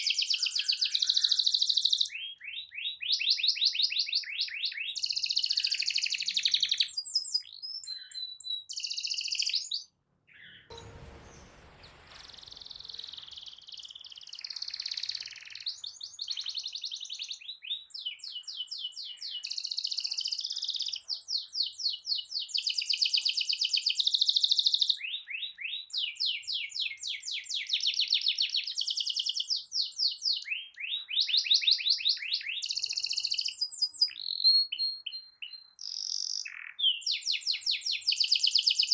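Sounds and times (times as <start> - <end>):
canary singing trills: 0.0 - 11.0, 11.8 - 38.9.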